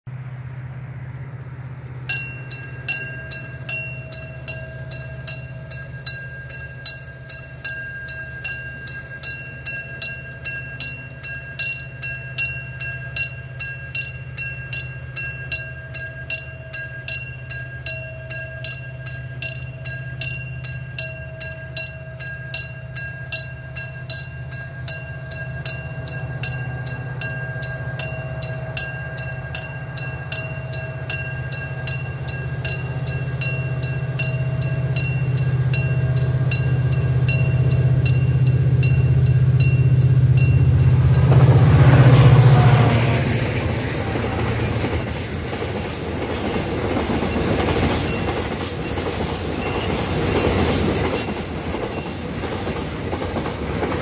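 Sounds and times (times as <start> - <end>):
diesel locomotive rumble: 0.1 - 54.0
level crossing warning bell: 2.0 - 54.0.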